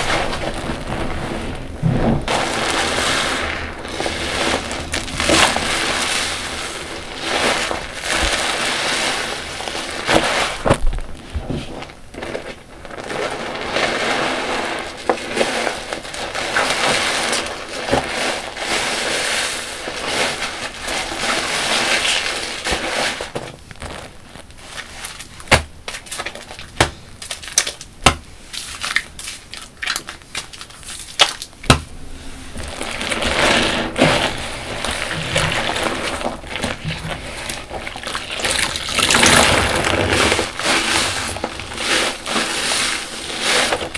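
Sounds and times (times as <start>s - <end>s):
foam clicking and popping: 0.0s - 43.9s
sponges squelching in soapy water: 0.0s - 43.9s.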